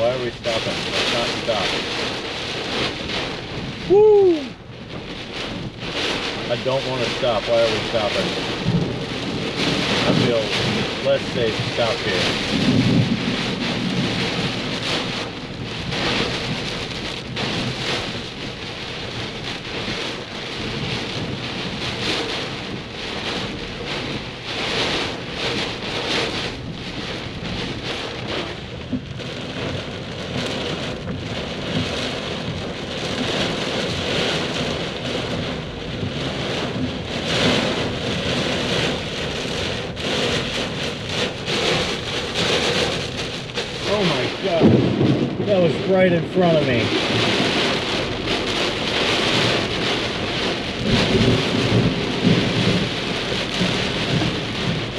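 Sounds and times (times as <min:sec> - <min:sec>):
heavy rain falling: 0:00.0 - 0:54.9
rumbling thunder: 0:00.0 - 0:54.9.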